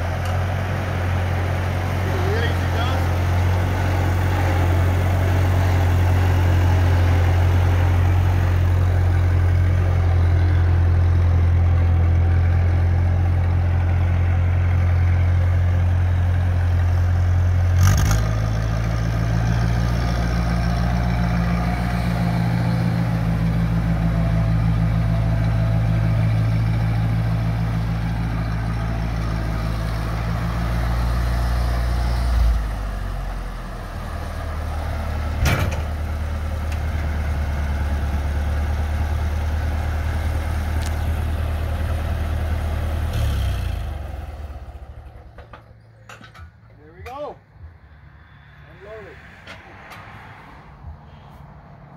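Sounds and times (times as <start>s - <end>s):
tractor engine running: 0.0s - 50.2s.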